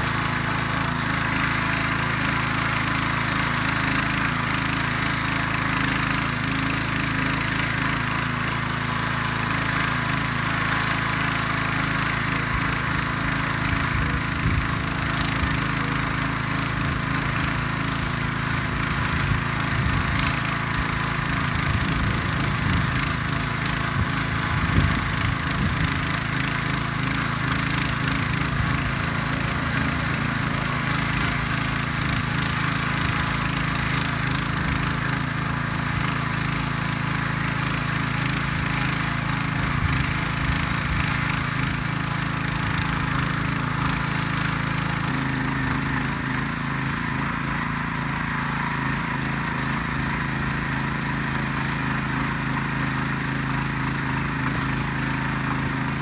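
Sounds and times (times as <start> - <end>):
tiller engine running under load: 0.0 - 56.0
tines churning soil: 0.0 - 56.0.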